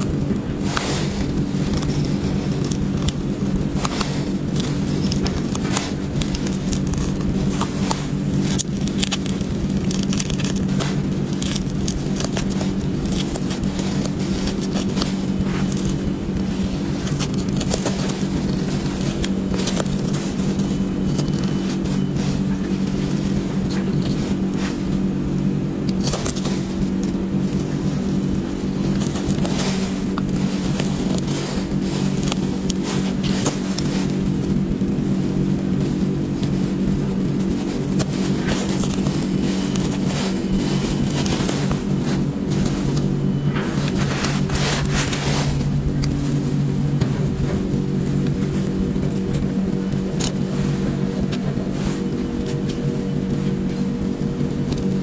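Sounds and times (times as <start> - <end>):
blade cutting and scraping: 0.0 - 34.6, 37.3 - 52.7
low hum: 0.0 - 55.0.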